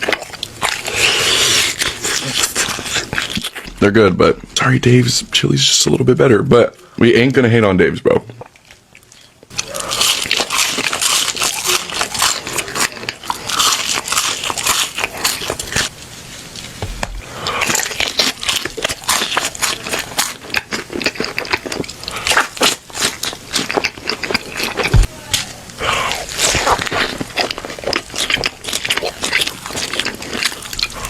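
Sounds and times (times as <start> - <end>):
crunching and chewing crispy food: 0.0 - 4.0, 8.3 - 15.9, 16.5 - 31.0.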